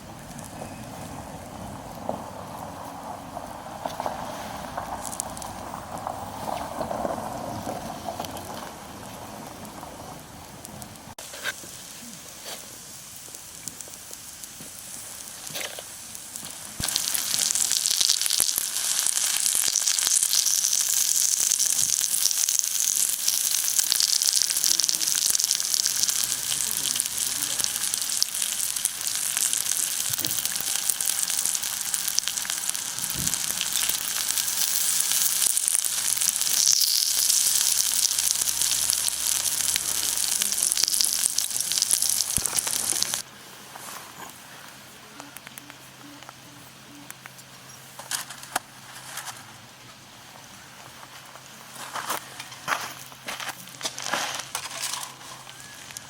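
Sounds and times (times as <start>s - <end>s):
steak sizzling on hot stones: 0.2s - 43.2s, 51.6s - 56.0s.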